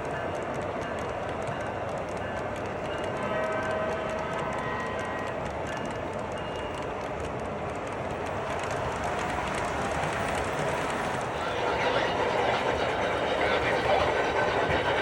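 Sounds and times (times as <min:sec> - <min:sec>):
train rolling: 0:00.0 - 0:15.0.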